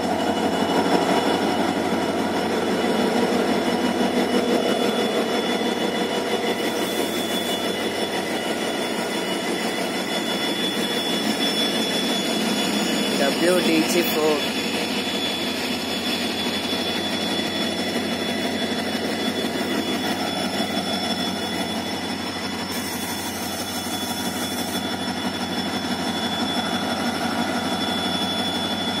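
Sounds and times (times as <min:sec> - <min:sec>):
diesel locomotives idling: 0:00.0 - 0:29.0
high-pitched whine: 0:00.0 - 0:29.0.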